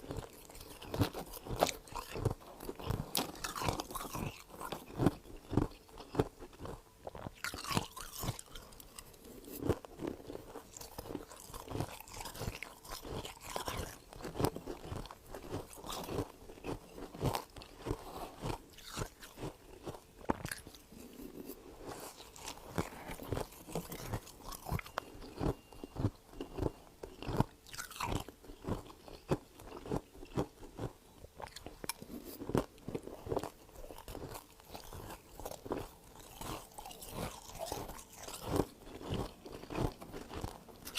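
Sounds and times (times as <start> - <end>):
frost being chewed crunching: 0.0 - 40.9.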